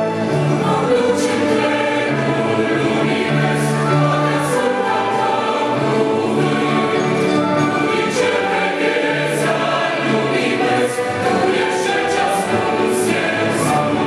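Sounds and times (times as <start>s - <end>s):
instrumental accompaniment: 0.0s - 14.0s
choir singing worship song: 0.3s - 14.0s.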